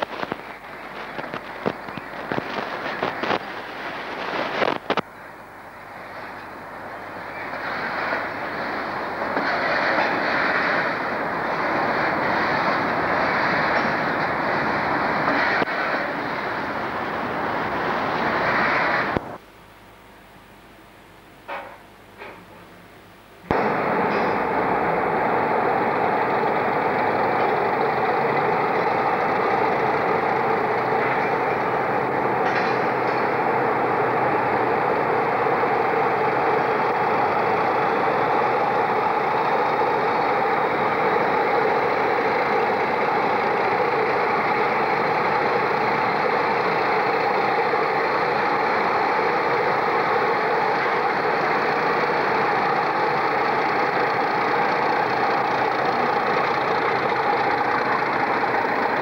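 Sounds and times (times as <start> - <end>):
diesel locomotive engine running: 0.0 - 19.4, 23.4 - 59.0.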